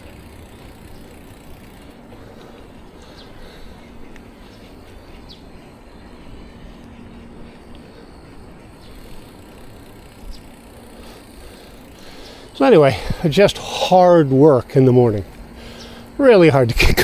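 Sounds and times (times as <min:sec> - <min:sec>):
bicycle road rumble: 0:00.0 - 0:17.0
faint hum: 0:00.0 - 0:17.0.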